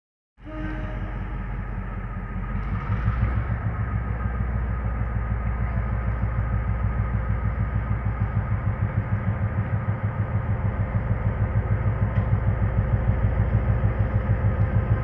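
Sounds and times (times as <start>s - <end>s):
diesel locomotive engine throbbing: 0.4s - 15.0s.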